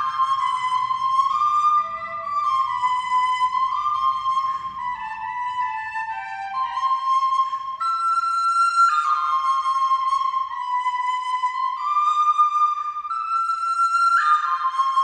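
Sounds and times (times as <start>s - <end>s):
flute-like melody: 0.0s - 15.0s.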